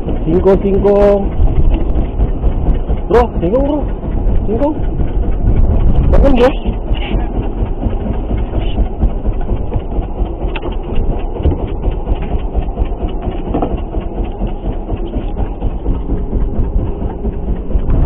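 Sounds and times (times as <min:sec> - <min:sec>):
boat low rumble: 0:00.0 - 0:18.0.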